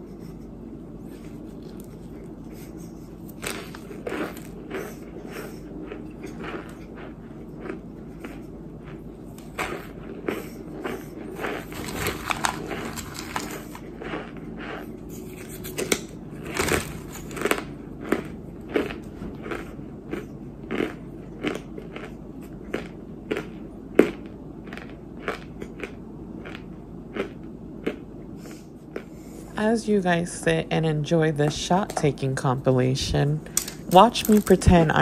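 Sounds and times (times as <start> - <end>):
crunchy chewing: 1.0 - 29.3.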